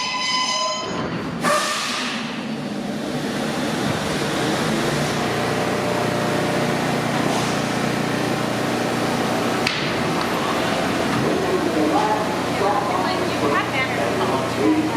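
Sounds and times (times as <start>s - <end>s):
subway train hum and rumble: 0.0s - 14.9s.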